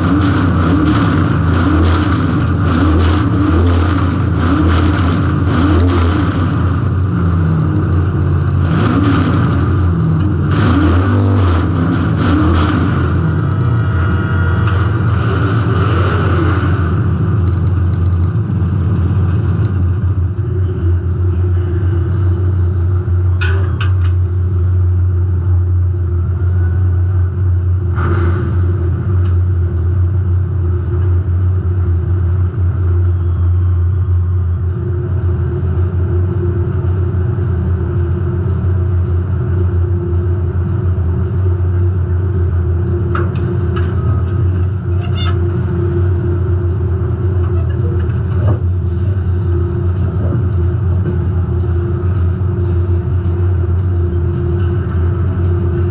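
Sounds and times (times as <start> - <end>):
car engine rumbling: 0.0 - 55.9.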